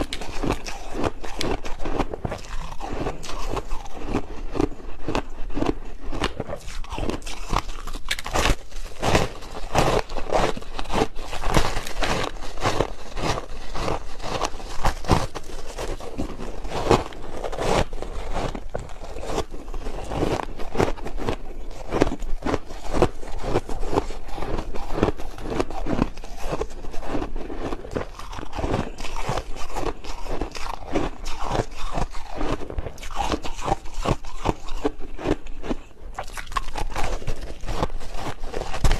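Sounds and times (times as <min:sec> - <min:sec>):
person chewing crushed ice: 0:00.0 - 0:38.9.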